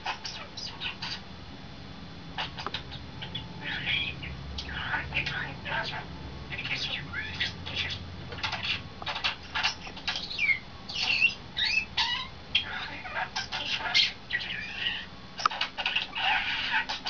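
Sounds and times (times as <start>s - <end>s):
starling singing: 0.0s - 1.2s, 2.4s - 17.0s.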